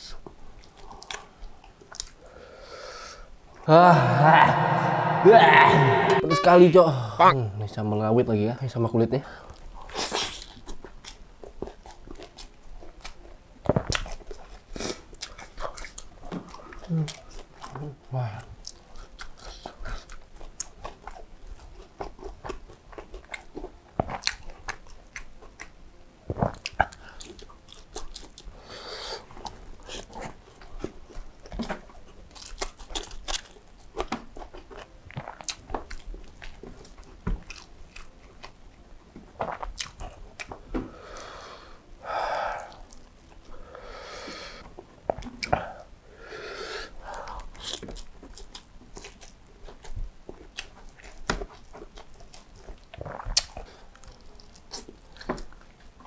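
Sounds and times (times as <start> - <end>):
chewing and crunching: 0.0 - 2.3, 9.4 - 28.6, 29.2 - 43.6, 44.7 - 45.9, 46.9 - 56.0.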